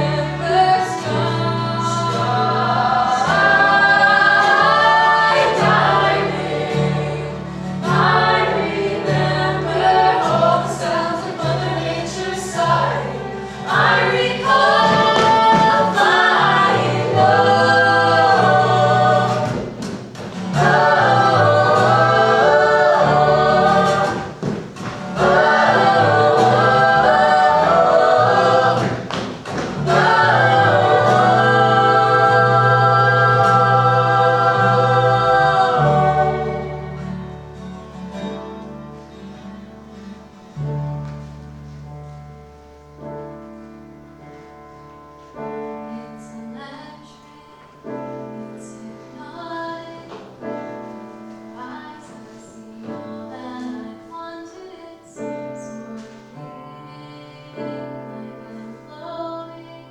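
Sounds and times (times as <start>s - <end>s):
voices singing in harmony: 0.0s - 37.6s, 45.9s - 59.9s.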